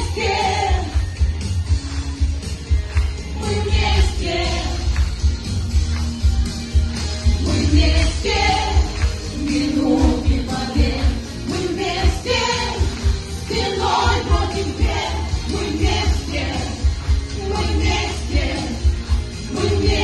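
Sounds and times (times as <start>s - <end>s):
group singing pop song: 0.0s - 1.8s, 2.9s - 5.6s, 7.2s - 20.0s.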